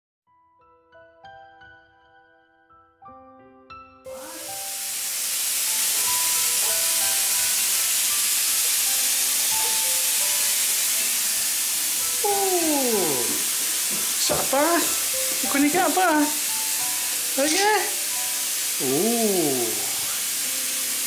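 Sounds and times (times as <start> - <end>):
tap water pouring into bathtub: 4.1 - 21.0.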